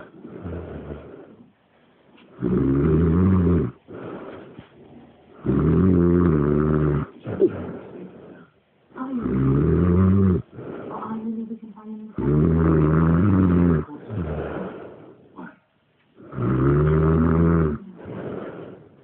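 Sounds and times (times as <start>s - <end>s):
loud pitched snores: 0.0s - 1.5s, 2.4s - 4.6s, 5.4s - 8.5s, 9.1s - 11.4s, 12.1s - 15.5s, 16.2s - 19.0s
quiet breathing: 0.0s - 19.0s.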